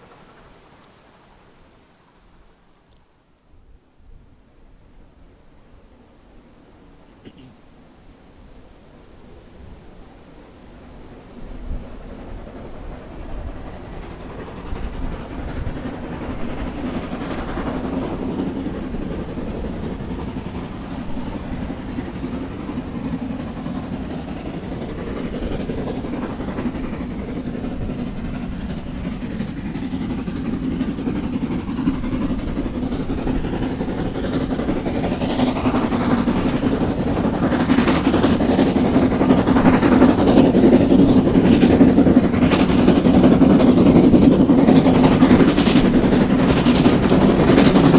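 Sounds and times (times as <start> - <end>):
steam train running: 0.0 - 2.9, 3.9 - 47.9.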